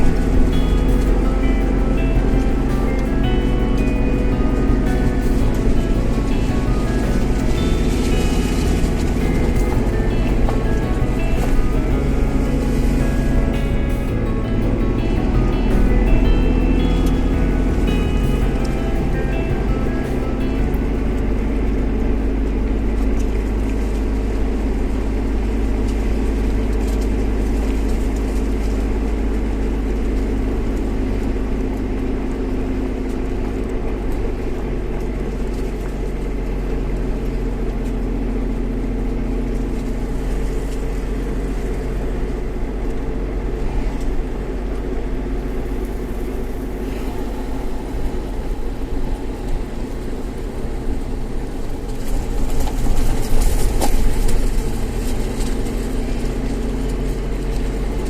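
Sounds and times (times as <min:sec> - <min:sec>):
car engine running: 0:00.0 - 0:58.0
road noise: 0:00.0 - 0:58.0.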